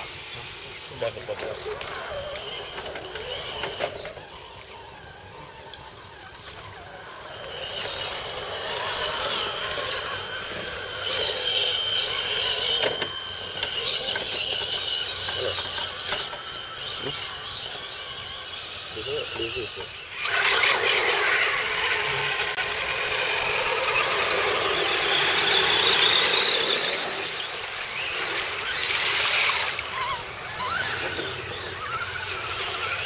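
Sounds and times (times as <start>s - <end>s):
toy truck motors whirring: 0.0s - 33.0s.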